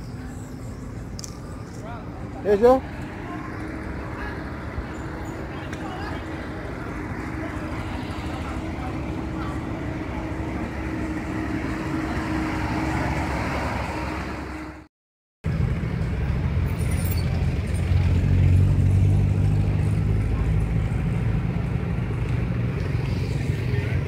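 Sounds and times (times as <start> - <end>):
road traffic engine rumble: 0.0 - 14.9, 15.5 - 24.0.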